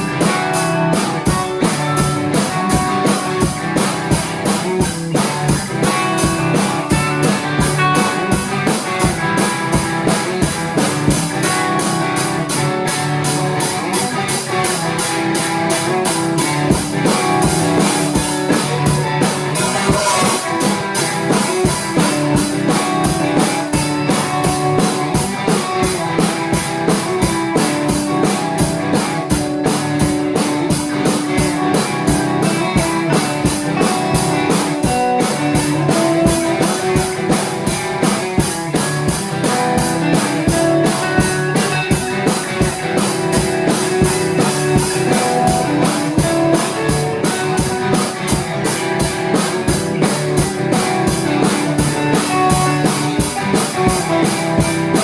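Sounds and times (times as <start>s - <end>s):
drum kit fast beat: 0.0s - 55.0s
guitar: 0.0s - 55.0s.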